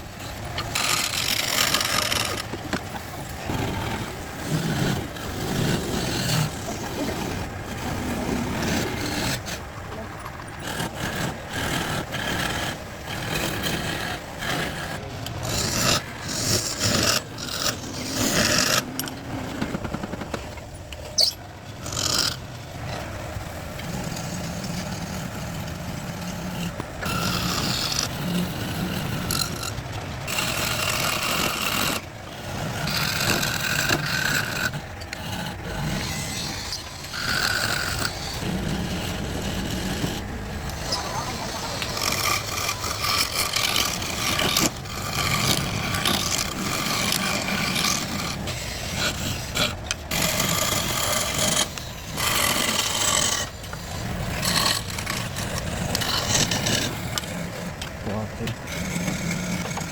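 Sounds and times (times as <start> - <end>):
hand tool scraping wood: 0.0 - 59.9.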